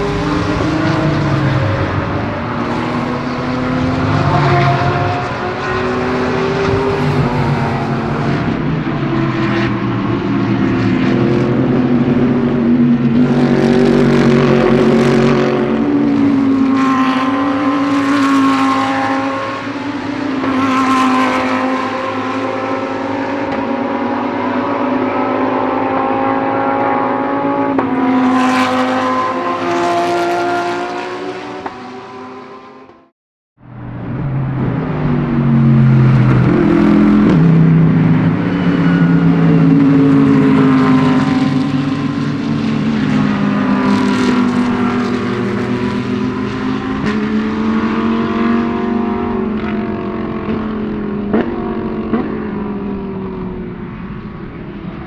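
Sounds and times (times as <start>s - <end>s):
race cars driving past: 0.0s - 55.0s.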